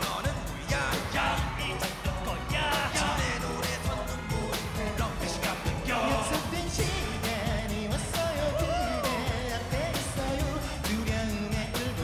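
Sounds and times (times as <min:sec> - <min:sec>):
man singing: 0:00.0 - 0:12.0
pop backing track with beat: 0:00.0 - 0:12.0.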